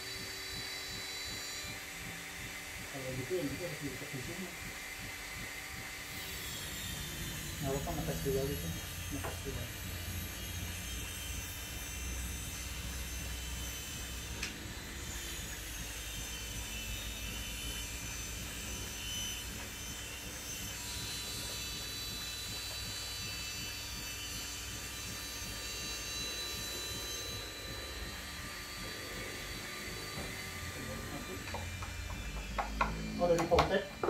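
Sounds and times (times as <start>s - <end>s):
mechanical hum and rumble: 0.0s - 34.0s.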